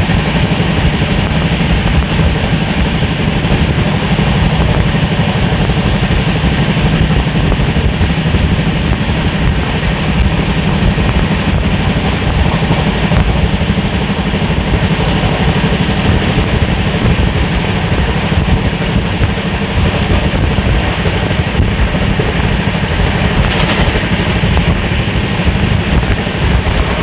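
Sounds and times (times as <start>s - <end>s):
rushing air: 0.0s - 27.0s
train wheels rumbling on track: 0.0s - 27.0s.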